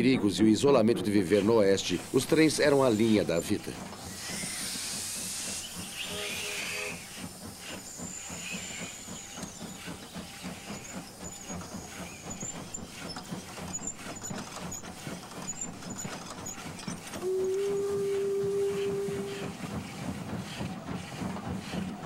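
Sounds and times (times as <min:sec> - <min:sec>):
locomotive wheels clattering: 0:00.0 - 0:22.0
steam hissing: 0:01.1 - 0:22.0.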